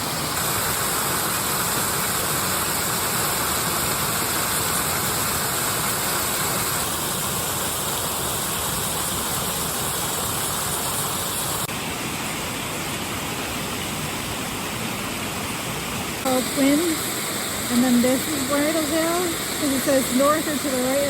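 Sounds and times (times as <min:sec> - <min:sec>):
waterfall onto rocks: 0:00.0 - 0:21.0.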